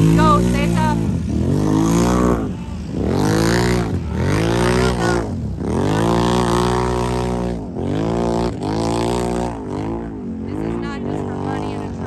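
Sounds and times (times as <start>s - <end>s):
off-road engines revving hard: 0.0s - 12.0s.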